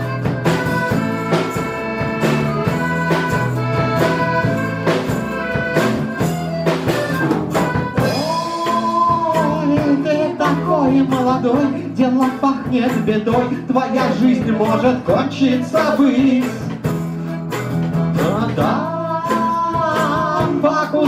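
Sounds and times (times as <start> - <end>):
live band playing: 0.0 - 21.0
steady drum beat: 0.0 - 21.0.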